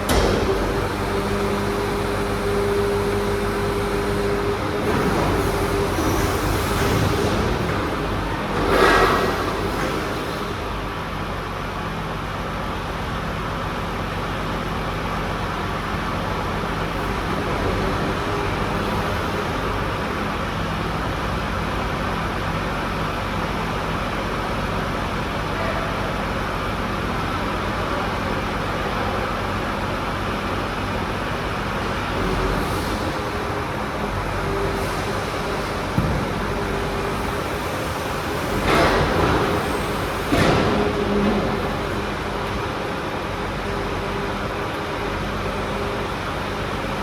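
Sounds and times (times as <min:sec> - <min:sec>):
truck engine droning: 0:00.0 - 0:47.0.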